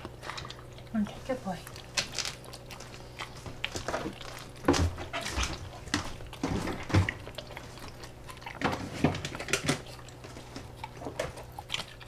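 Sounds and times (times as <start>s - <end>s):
dog chewing and smacking: 0.0s - 12.0s.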